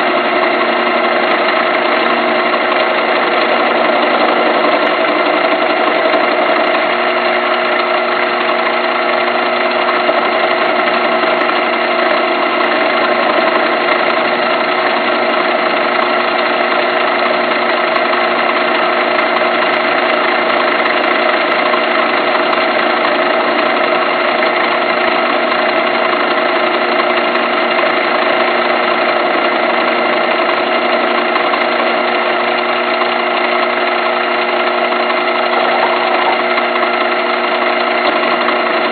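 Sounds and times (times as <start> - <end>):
metal lathe humming: 0.0 - 38.9.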